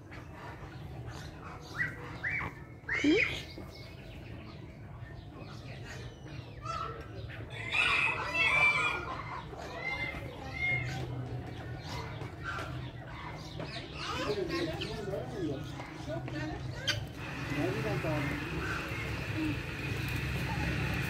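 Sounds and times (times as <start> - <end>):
birds calling and chattering: 0.0 - 21.0.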